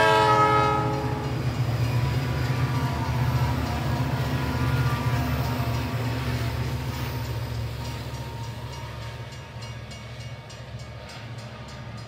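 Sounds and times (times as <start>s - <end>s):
clickety-clack of train wheels: 0.0s - 12.0s
train low rumble: 0.0s - 12.0s.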